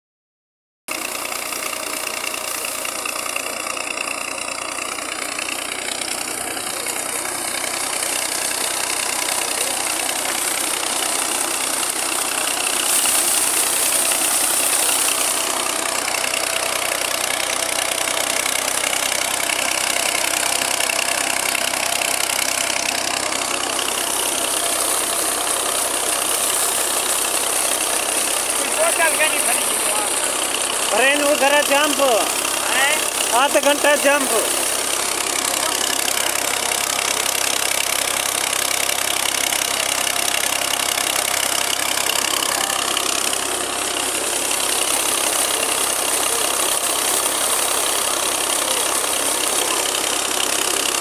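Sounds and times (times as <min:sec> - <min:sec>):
pump machine hum: 0:00.9 - 0:51.0
water gushing from pipe: 0:00.9 - 0:51.0.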